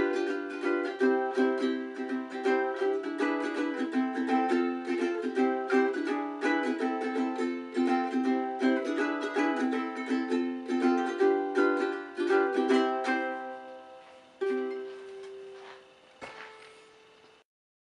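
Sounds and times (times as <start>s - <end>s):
ukulele strummed in chords: 0.0s - 17.2s.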